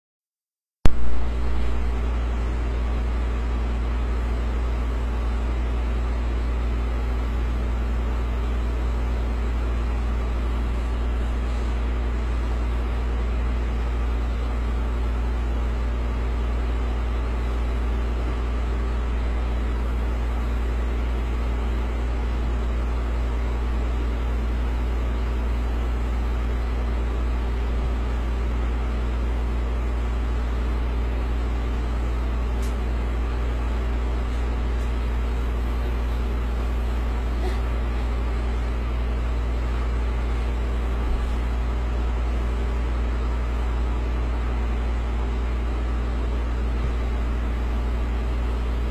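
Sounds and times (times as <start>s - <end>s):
low machine drone: 0.8s - 48.9s.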